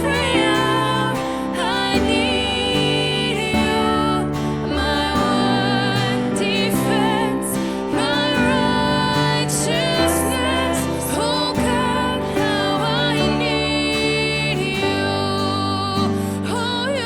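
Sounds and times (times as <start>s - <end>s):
slow worship music: 0.0s - 17.0s.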